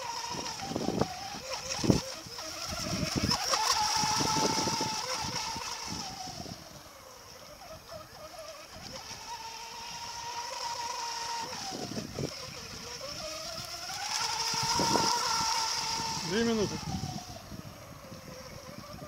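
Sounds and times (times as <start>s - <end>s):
electric boat motor whine: 0.0s - 19.0s.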